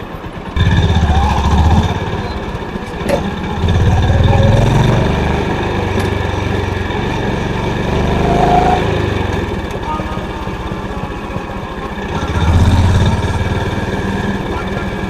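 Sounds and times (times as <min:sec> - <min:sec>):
motorcycle engine thumping: 0:00.4 - 0:08.2, 0:08.8 - 0:15.0.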